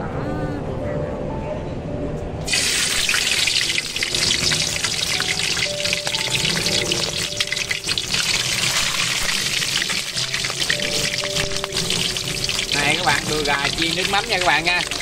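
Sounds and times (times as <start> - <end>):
chicken sizzling in hot oil: 2.4 - 15.0.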